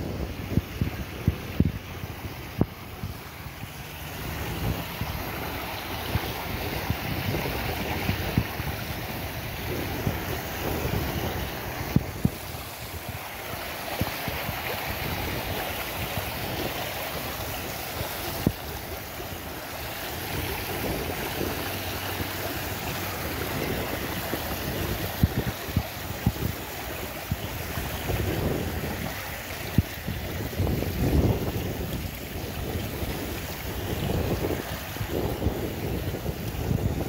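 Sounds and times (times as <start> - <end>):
fountain water splashing: 0.0 - 37.0
wind buffeting microphone: 0.0 - 37.0.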